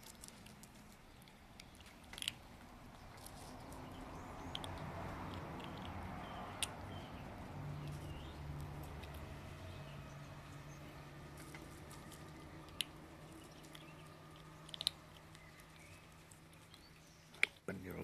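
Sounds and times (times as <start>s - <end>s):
kitten chewing food: 0.0s - 17.7s
low background hum: 0.0s - 18.0s.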